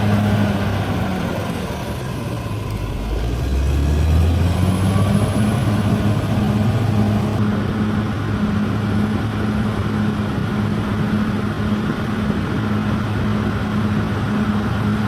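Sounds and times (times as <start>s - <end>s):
bulldozer diesel engine droning: 0.0s - 15.0s.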